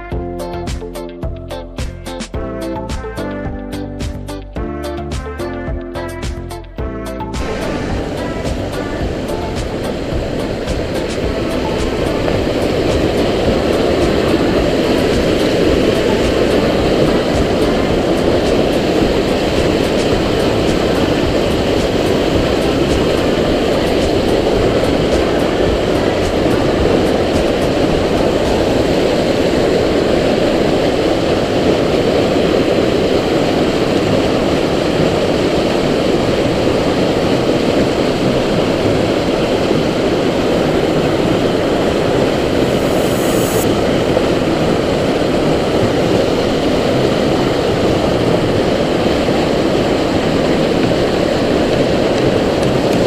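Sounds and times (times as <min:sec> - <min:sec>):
water rushing over boulders: 0:07.3 - 0:53.0.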